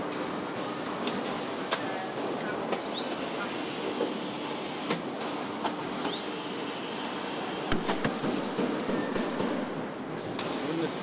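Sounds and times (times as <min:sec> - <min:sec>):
assembly line clatter and hum: 0:00.0 - 0:11.0.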